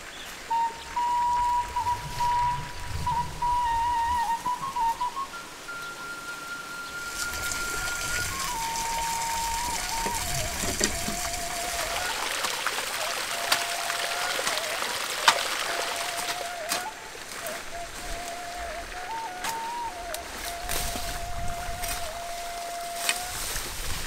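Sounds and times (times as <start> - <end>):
slow flute-like melody: 0.0 - 24.0
steady hiss: 0.0 - 24.0.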